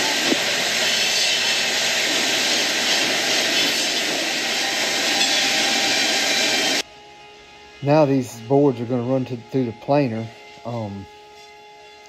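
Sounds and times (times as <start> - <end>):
circular saws and conveyor din: 0.0 - 12.0.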